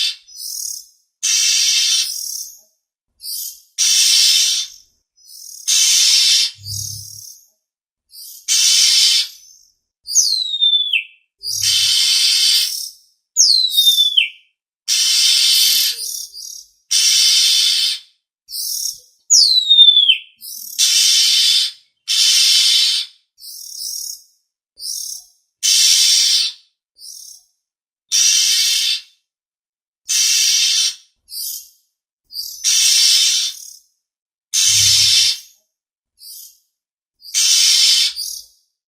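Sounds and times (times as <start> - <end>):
harsh rasping bird calls: 0.0 - 2.6, 3.2 - 7.4, 8.2 - 24.2, 24.8 - 27.4, 28.1 - 29.2, 30.1 - 31.6, 32.3 - 33.8, 34.6 - 35.6, 37.2 - 38.5.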